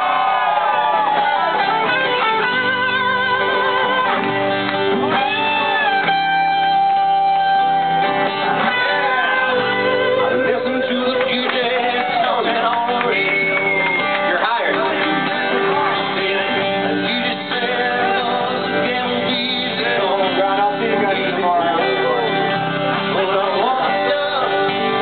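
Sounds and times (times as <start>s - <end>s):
live rock band playing: 0.0s - 25.0s
strummed acoustic guitar: 0.0s - 25.0s
wavering lead guitar notes: 0.0s - 25.0s.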